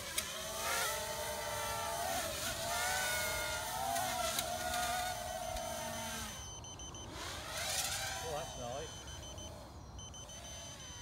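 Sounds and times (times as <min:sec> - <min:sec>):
quadcopter propellers buzzing: 0:00.0 - 0:11.0.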